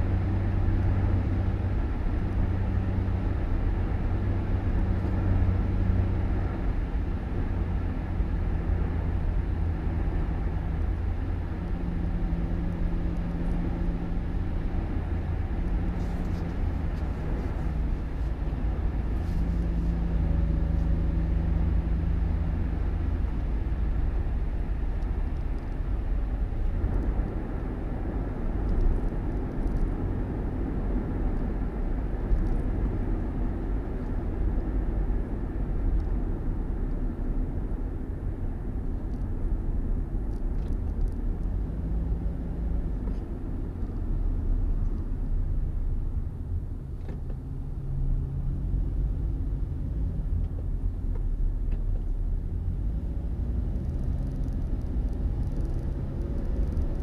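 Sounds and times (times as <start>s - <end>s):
engine hum: 0.0s - 57.0s
road noise: 0.0s - 57.0s
vehicle engine rumble: 0.0s - 57.0s.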